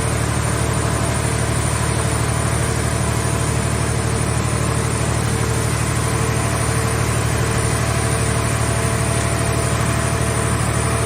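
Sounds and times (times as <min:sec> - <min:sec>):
baler power unit humming: 0:00.0 - 0:11.0.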